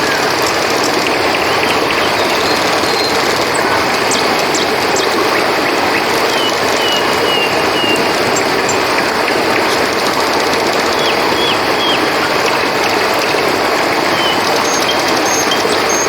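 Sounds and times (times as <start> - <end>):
river flowing: 0.0 - 16.0.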